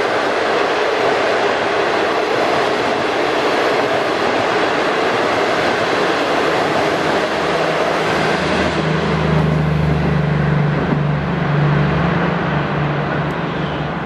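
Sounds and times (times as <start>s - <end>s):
train coaches rumbling past: 0.0s - 14.0s.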